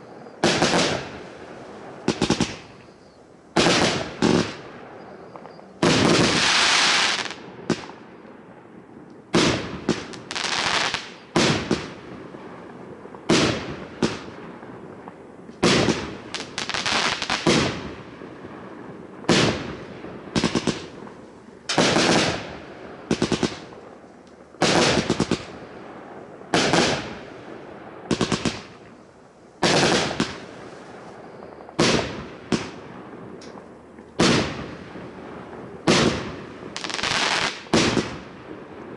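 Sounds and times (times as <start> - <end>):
fireworks shots and bursts: 0.0 - 8.7, 9.3 - 29.0, 29.6 - 38.9.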